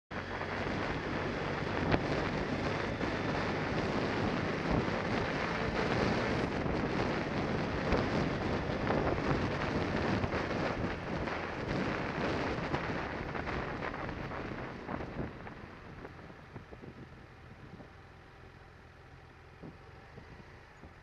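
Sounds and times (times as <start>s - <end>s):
wind rushing over microphone: 0.1s - 18.1s, 19.5s - 21.0s
motorcycle engine: 0.1s - 21.0s.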